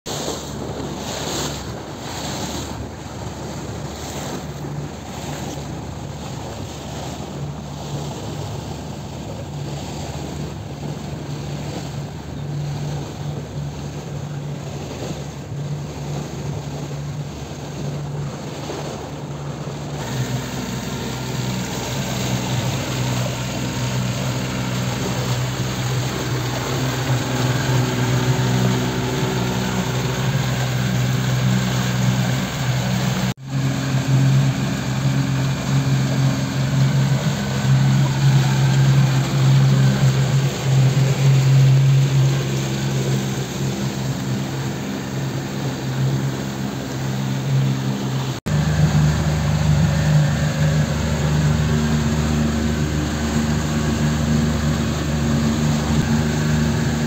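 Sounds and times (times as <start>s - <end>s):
outboard motor running: 0.0s - 57.0s
water around boat hull: 0.0s - 57.0s.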